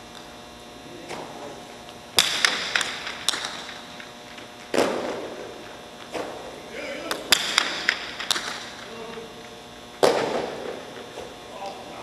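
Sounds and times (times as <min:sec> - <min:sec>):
ball hitting court walls: 0:01.0 - 0:11.8.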